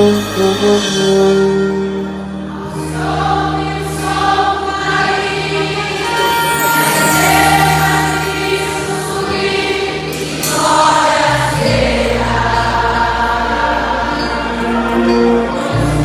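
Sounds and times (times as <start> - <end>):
choir singing a gospel hymn: 0.0 - 16.0
instrumental accompaniment: 0.0 - 16.0.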